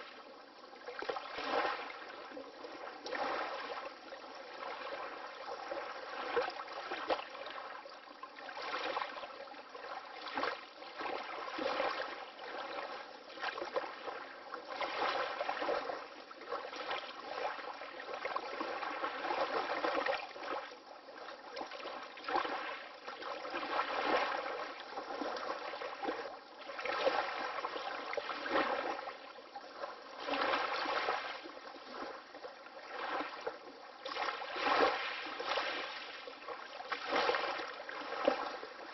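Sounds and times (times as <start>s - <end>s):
small waves lapping and splashing: 0.0s - 38.9s.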